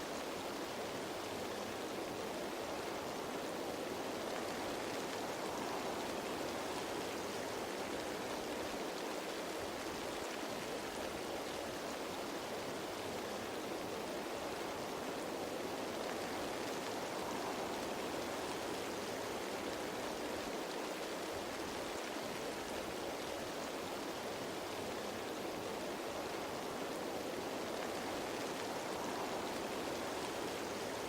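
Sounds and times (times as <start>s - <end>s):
rain falling on leaves: 0.0s - 31.0s.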